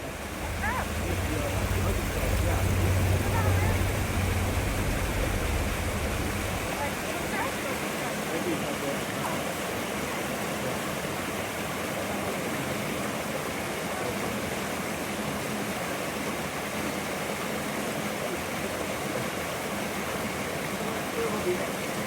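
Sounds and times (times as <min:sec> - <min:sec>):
stream flowing: 0:00.0 - 0:22.0.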